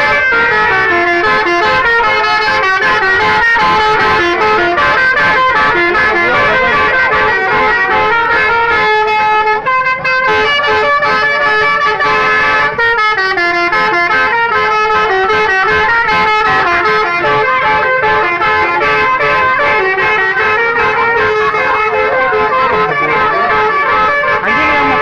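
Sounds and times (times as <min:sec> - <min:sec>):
bus horns playing a tune: 0:00.0 - 0:25.0.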